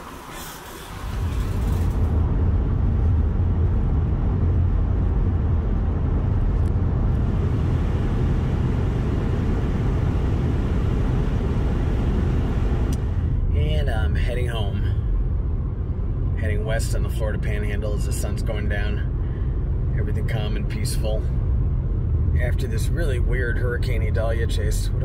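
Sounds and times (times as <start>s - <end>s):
car driving heard from cabin: 0.0s - 25.0s.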